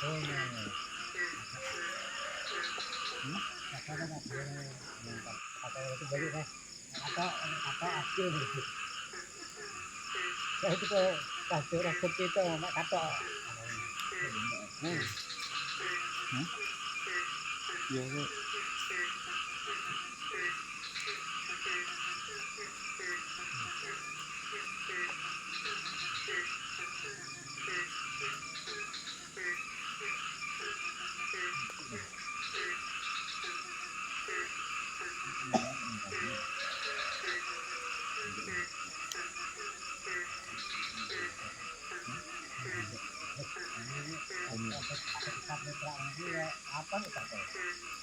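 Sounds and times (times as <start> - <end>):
frogs croaking: 0.0 - 48.0
pulsing frog calls: 0.0 - 48.0.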